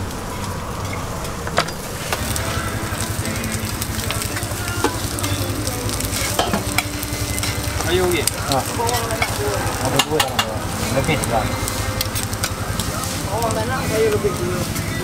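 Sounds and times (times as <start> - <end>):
burger patties sizzling on griddle: 0.0 - 15.0.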